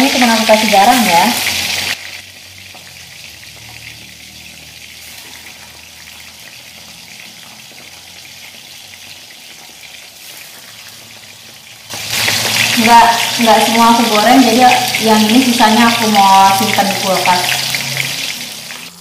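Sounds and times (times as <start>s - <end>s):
food deep-frying in hot oil: 0.0s - 19.0s.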